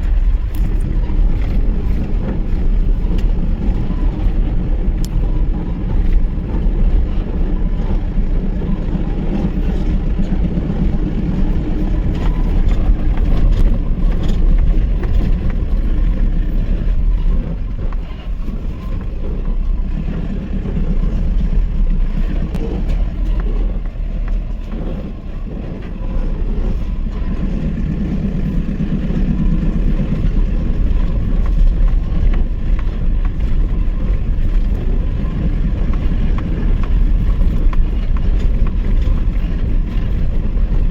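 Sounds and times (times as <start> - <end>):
truck engine rumbling: 0.0 - 40.9.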